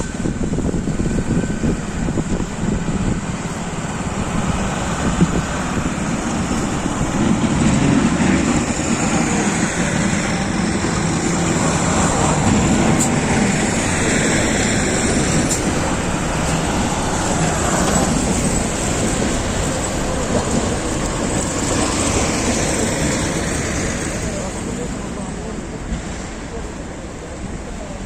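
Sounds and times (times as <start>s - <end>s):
passing traffic rumble: 0.0s - 28.0s.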